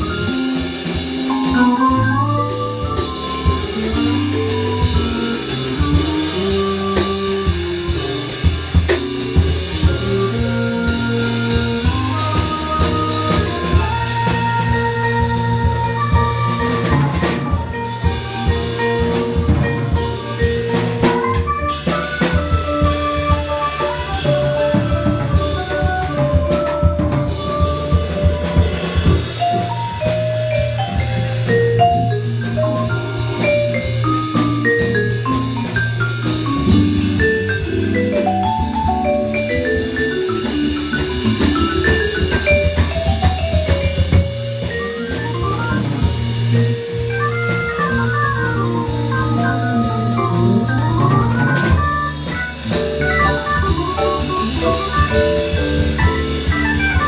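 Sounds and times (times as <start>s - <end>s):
vibraphone solo: 0.0s - 8.6s, 17.9s - 25.4s, 26.1s - 57.0s
drum kit with cymbals: 0.0s - 57.0s
electric keyboard bass notes: 0.0s - 57.0s.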